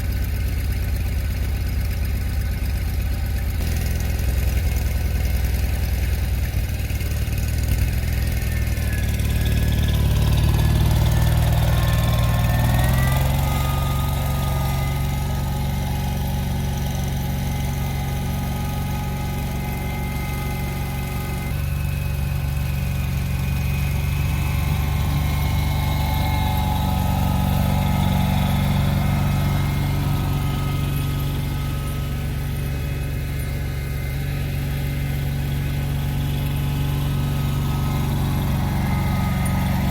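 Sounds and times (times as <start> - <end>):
vehicle engine running: 0.0 - 39.9
whine: 7.4 - 39.9.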